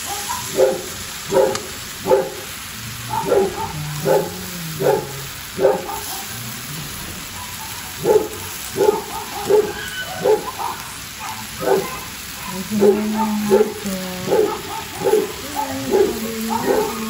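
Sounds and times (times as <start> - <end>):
dog barking: 0.0 - 6.5, 7.2 - 17.0.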